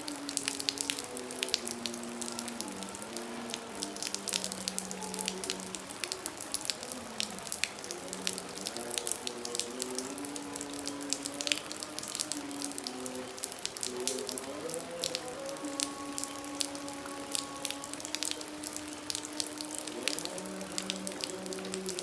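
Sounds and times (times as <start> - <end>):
heavy rain pattering: 0.0 - 22.0.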